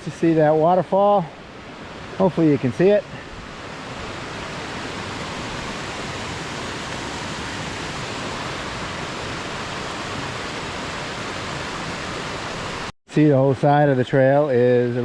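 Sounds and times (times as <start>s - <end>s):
waterfall and mountain stream rushing: 0.0s - 12.9s.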